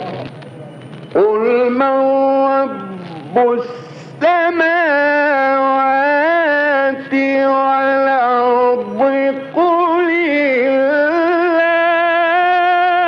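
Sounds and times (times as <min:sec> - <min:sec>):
man chanting melodically: 0:01.1 - 0:13.0.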